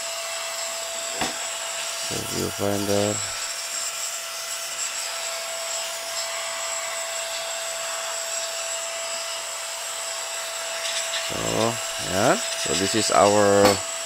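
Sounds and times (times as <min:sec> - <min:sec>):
small fan motor whine: 0:00.0 - 0:14.0.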